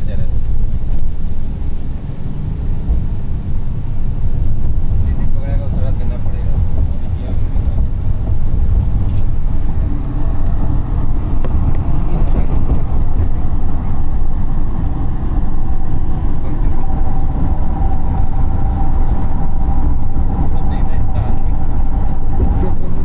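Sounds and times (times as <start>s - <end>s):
faint steady whine: 0.0s - 23.0s
van road and engine rumble: 0.0s - 23.0s.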